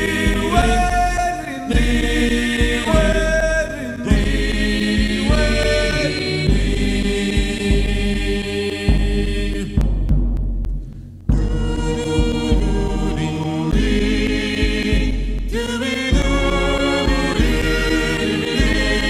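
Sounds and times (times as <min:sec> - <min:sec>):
ensemble singing in chorus: 0:00.0 - 0:10.3, 0:11.3 - 0:19.0
instrumental accompaniment with low beat: 0:00.0 - 0:19.0.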